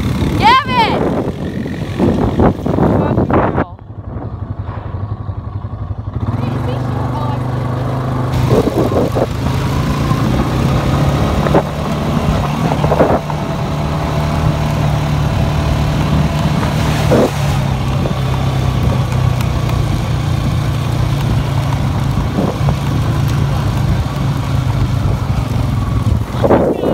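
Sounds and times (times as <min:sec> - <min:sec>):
quad bike engine running: 0:00.0 - 0:26.9.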